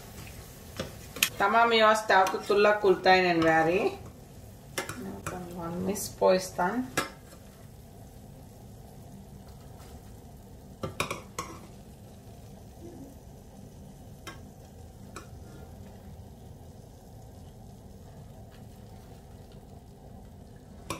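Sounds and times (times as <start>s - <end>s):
food sizzling in hot oil: 0.0s - 20.9s.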